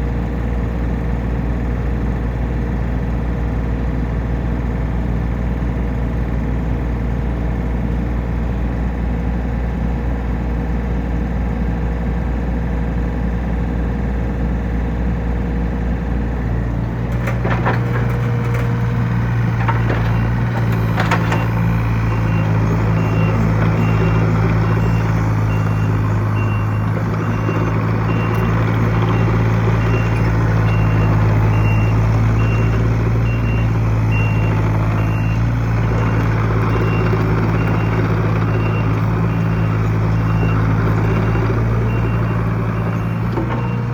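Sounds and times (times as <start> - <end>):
excavator diesel engine: 0.0 - 43.9.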